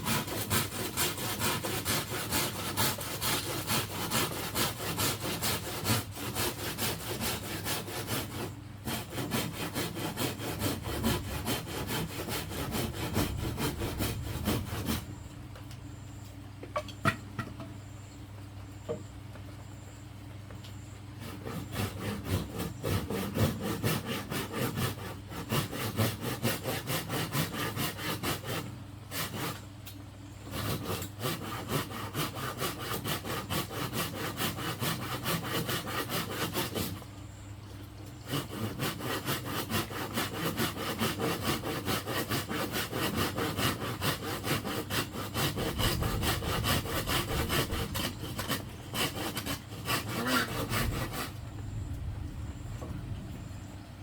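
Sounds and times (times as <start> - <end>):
hand saw cutting bamboo: 0.0 - 15.1, 21.2 - 29.7, 30.4 - 37.0, 38.2 - 51.4.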